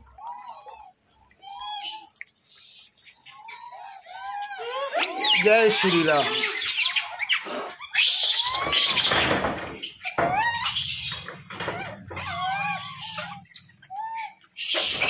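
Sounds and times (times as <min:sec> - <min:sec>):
monkeys squealing and chirping: 0:00.0 - 0:15.0
monkeys scuffling: 0:01.4 - 0:15.0.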